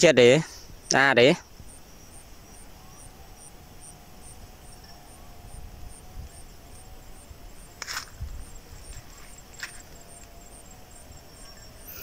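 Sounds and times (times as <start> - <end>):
insects chirping: 0.0 - 12.0
faint wavering hum: 0.7 - 12.0.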